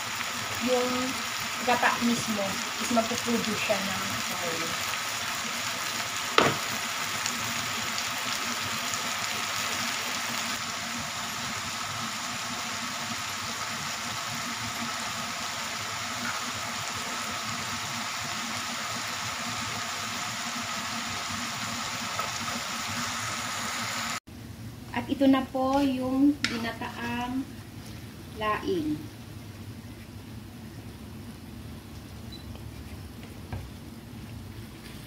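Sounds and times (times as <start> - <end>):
sizzling and bubbling in a wok: 0.0 - 35.0.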